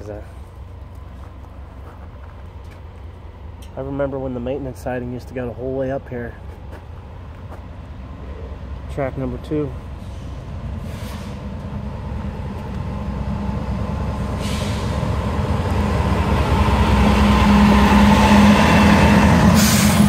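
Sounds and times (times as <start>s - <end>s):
diesel locomotive engine drone: 0.0s - 20.0s
rail rumble: 0.0s - 20.0s.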